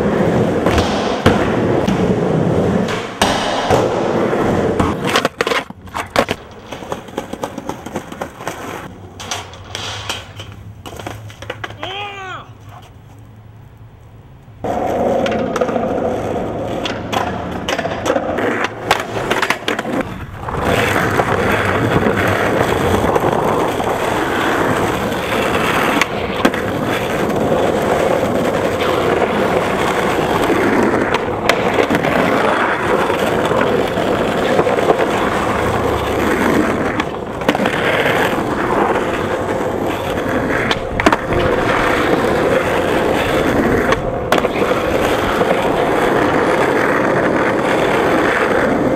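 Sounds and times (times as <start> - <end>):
skateboard clacking on ground: 0.0 - 13.4, 14.6 - 48.9
skateboard wheels rolling on pavement: 0.0 - 48.9.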